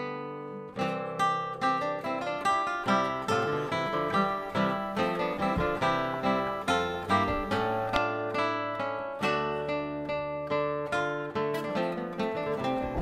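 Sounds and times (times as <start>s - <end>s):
renaissance plucked string music: 0.0s - 13.0s.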